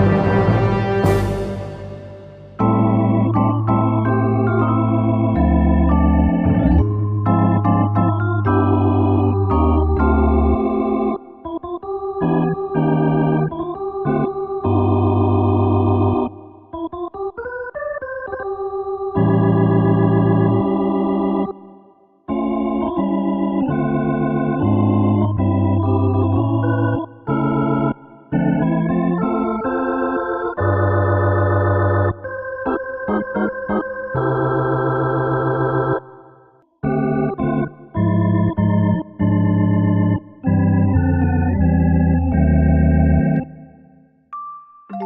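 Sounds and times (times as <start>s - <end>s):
keyboard organ chords: 0.0s - 45.0s.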